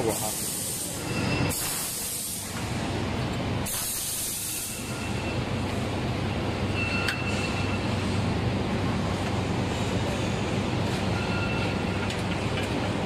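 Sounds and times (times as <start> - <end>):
factory machinery rumble and hum: 0.0 - 13.0.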